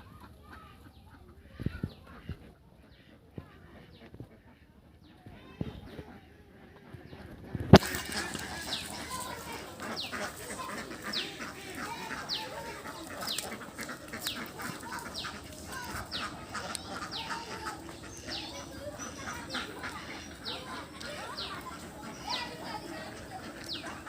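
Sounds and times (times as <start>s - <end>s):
ducks calling: 0.0s - 24.0s
duck peeping: 0.2s - 24.0s.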